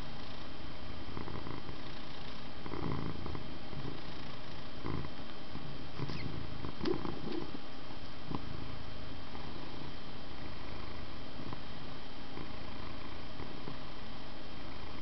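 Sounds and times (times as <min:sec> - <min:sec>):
background hiss: 0:00.0 - 0:15.0
cat purring: 0:00.0 - 0:15.0.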